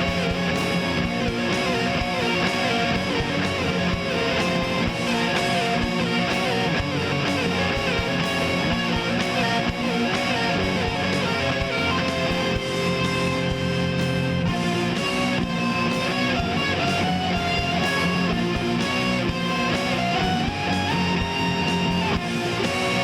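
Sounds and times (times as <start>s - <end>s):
electric guitar riffing: 0.0s - 23.0s
steady drum beat: 0.0s - 23.0s.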